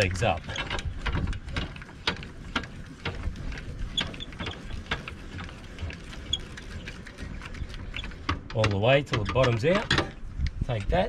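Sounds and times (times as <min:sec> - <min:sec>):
hand crank clicking and scraping: 0:00.0 - 0:11.0.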